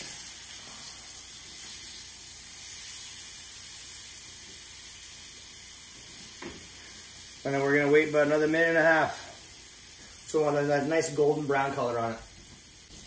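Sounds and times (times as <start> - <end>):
cheese sizzling in hot oil: 0.0 - 13.0.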